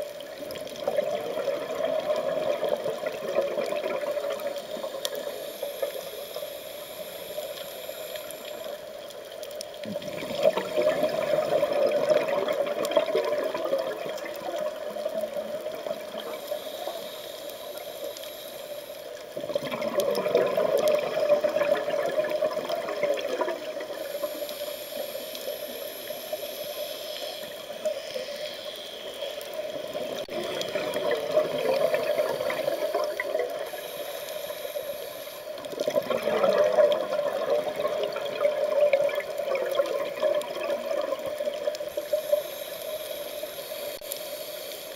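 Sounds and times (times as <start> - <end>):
muffled water hiss: 0.0 - 44.9
underwater exhaust bubbles gurgling: 0.0 - 44.9.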